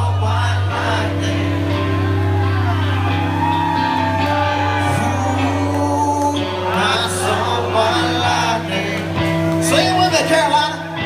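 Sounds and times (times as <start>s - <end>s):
person singing: 0.0s - 9.9s
live country-rock band: 0.0s - 11.0s.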